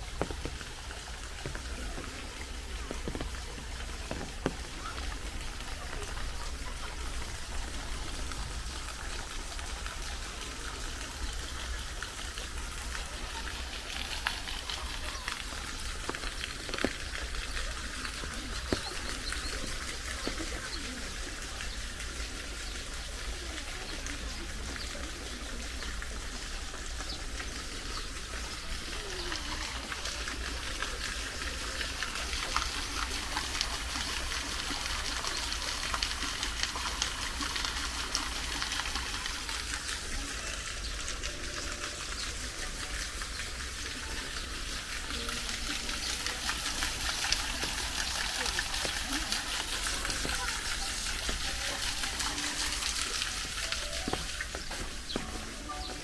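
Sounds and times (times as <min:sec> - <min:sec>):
rain on trees and grass: 0:00.0 - 0:56.0
water drip taps: 0:00.0 - 0:56.0.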